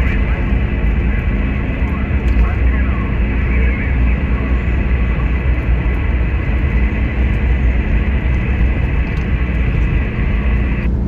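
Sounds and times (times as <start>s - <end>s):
radio static hiss: 0.0s - 10.9s
car rumbling on the road: 0.0s - 11.0s.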